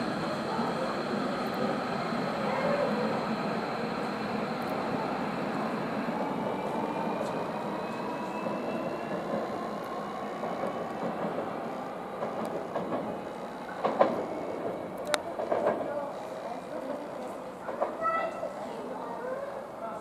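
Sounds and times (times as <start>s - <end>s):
train wheels rumbling on rail: 0.0s - 19.1s.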